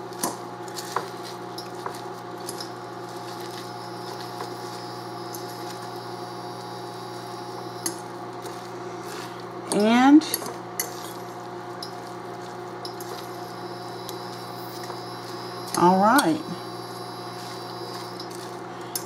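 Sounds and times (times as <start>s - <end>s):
steady hum: 2.1s - 19.0s.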